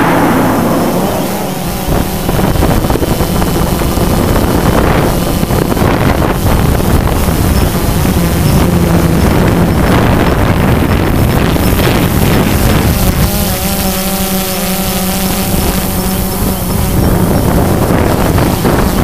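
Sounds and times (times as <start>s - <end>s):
drone motor hum: 0.0s - 19.0s
wind on microphone: 0.0s - 19.0s.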